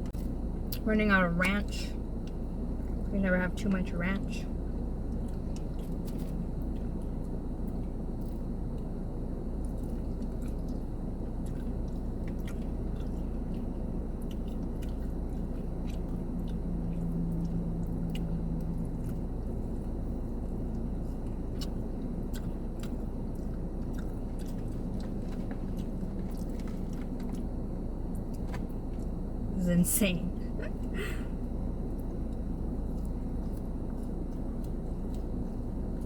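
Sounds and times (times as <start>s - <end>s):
steady low hum: 0.0s - 36.0s
person chewing food: 4.6s - 29.5s, 30.7s - 36.0s.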